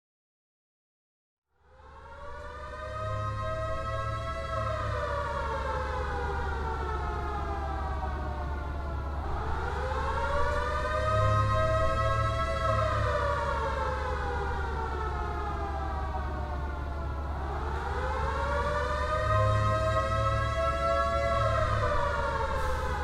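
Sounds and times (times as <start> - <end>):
siren wailing: 1.6 - 23.0.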